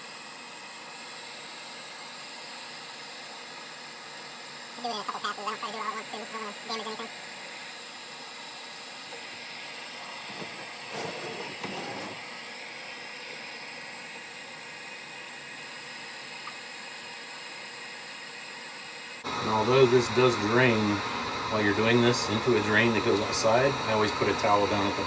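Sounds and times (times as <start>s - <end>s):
hot-air blower hissing: 0.0s - 25.0s.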